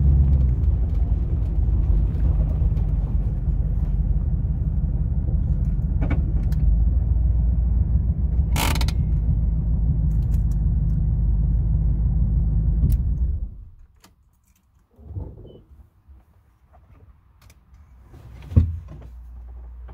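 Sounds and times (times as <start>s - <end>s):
van engine rumbling: 0.0s - 14.0s, 17.8s - 19.9s.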